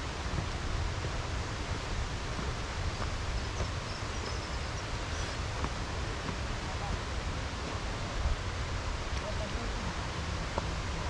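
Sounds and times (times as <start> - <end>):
fluttering low rumble outdoors: 0.0 - 11.0.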